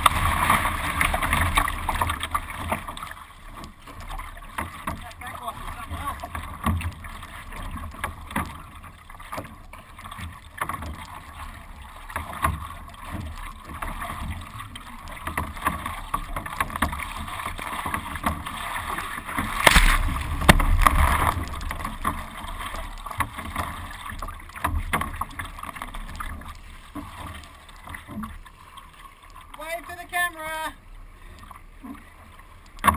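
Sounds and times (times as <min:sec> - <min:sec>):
paddle knocks and splashes: 0:00.0 - 0:30.8, 0:31.4 - 0:32.9
water sloshing against hull: 0:00.0 - 0:32.9.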